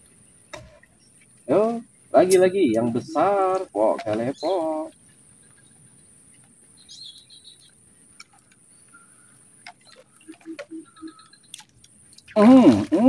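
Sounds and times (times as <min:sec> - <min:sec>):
steady high-pitched hiss: 0:00.0 - 0:13.0
bird chirps: 0:00.2 - 0:13.0.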